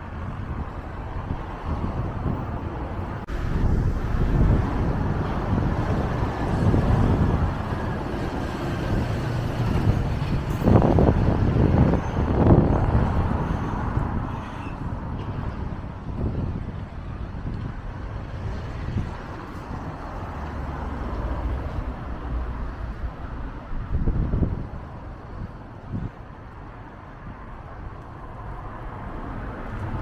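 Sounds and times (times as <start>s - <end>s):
road traffic: 0.0s - 30.0s
wind buffeting microphone: 0.0s - 30.0s.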